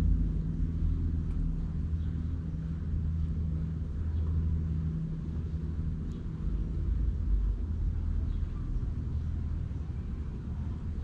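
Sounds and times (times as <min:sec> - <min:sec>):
low machine hum and rumble: 0:00.0 - 0:11.0.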